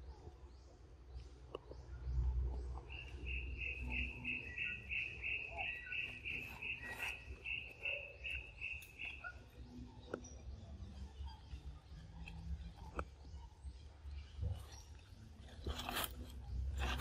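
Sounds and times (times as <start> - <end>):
low rumble of wind: 0.0 - 17.0.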